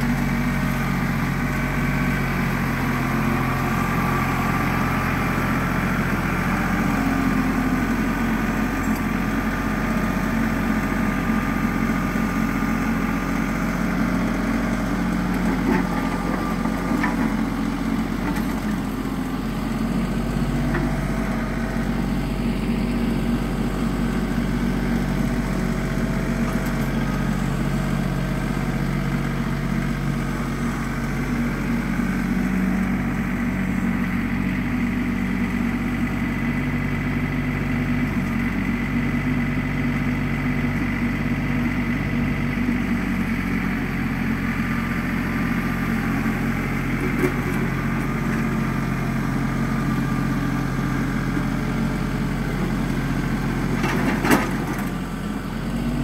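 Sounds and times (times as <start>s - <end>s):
diesel tractor engine under load: 0.0s - 56.0s.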